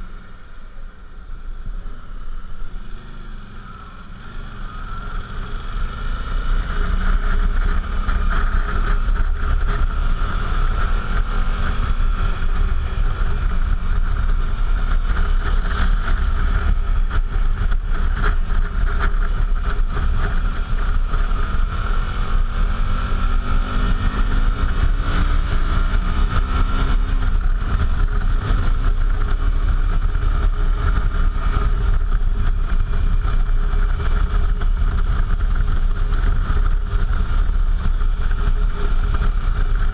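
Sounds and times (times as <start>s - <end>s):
motorcycle engine: 0.0s - 39.9s
wind rumble on microphone: 0.0s - 39.9s.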